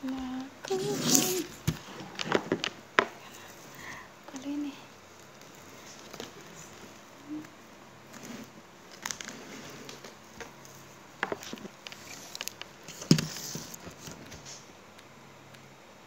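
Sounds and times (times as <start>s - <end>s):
rustling of craft materials: 0.0s - 14.7s.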